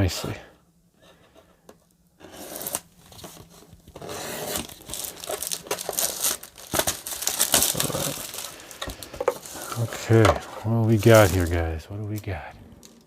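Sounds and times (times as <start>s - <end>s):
packaging crinkling and tearing: 2.2s - 13.0s.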